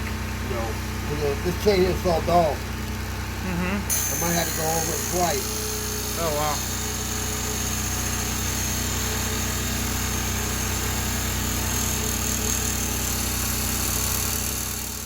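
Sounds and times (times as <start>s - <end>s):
motor hum and high whine: 0.0s - 15.0s
chainsaw chain grinder running: 0.1s - 15.0s.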